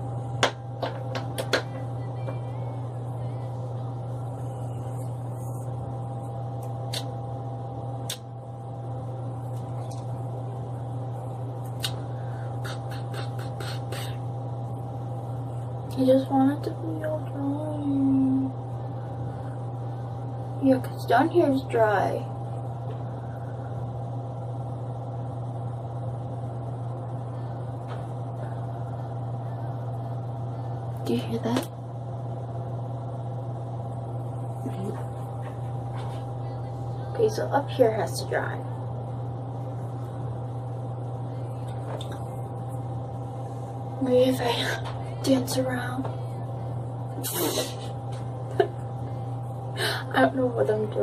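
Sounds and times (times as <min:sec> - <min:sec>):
electric motor hum: 0:00.0 - 0:51.0.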